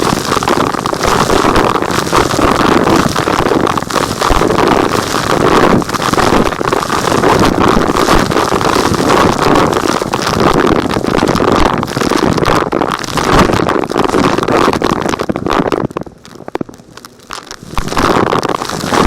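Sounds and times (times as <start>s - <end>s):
crackles of debris sucked up: 0.0s - 19.0s.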